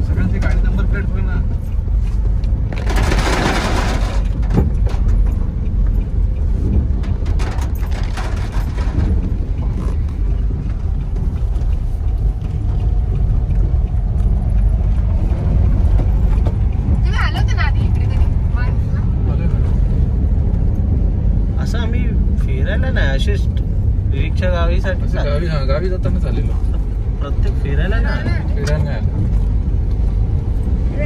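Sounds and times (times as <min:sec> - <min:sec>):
car engine and tyres on wet road: 0:00.0 - 0:31.0.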